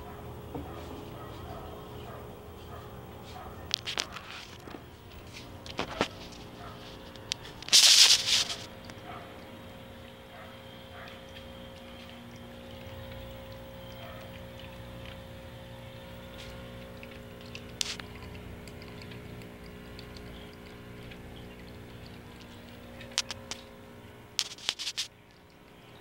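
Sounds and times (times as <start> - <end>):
pump humming: 0.0 - 26.0
water fountain running: 3.8 - 26.0.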